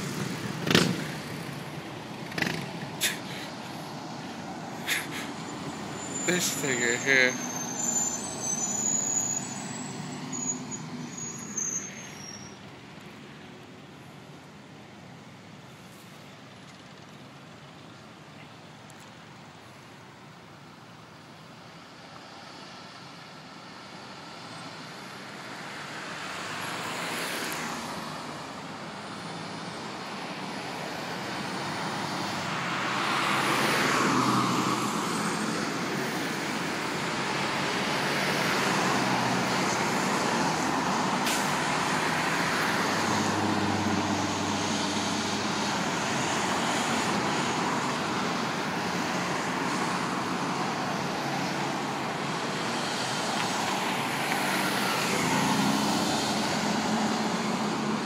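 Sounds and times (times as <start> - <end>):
vehicles driving past: 0.0 - 58.0.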